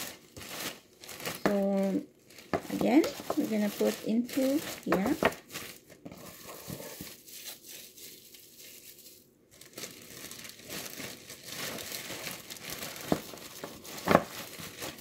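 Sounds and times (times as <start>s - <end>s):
plastic bag and cling wrap crinkling: 0.0s - 15.0s.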